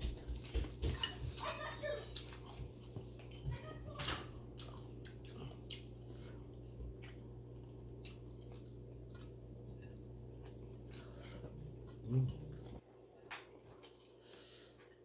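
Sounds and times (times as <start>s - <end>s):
person chewing: 0.0s - 1.5s, 2.1s - 3.2s, 4.4s - 15.0s
steady low hum: 0.0s - 15.0s.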